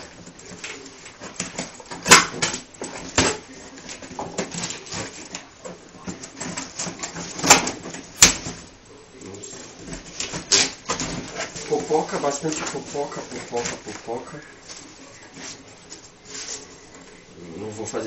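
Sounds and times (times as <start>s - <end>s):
cardboard scraping: 0.0s - 8.7s, 9.4s - 17.0s.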